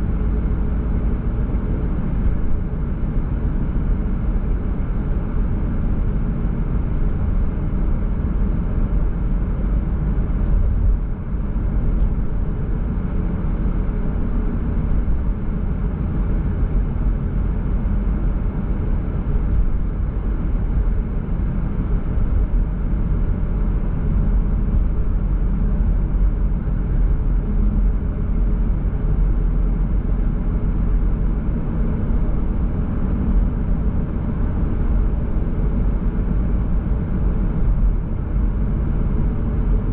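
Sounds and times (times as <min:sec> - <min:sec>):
car driving on a road: 0:00.0 - 0:39.9.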